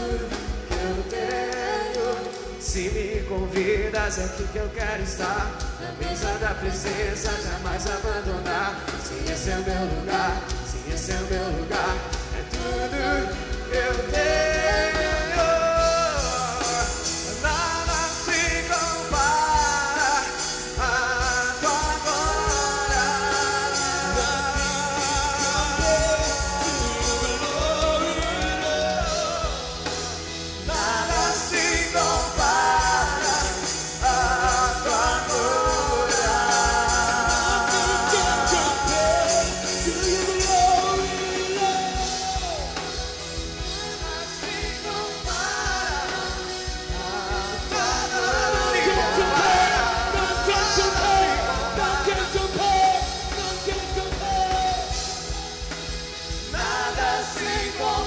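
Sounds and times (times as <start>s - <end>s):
man singing: 0.0s - 58.0s
worship band playing: 0.0s - 58.0s.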